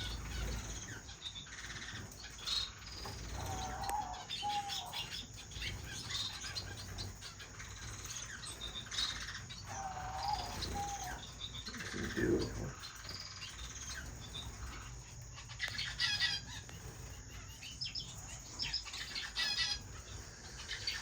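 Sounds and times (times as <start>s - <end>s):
finches chirping and twittering: 0.0s - 21.0s.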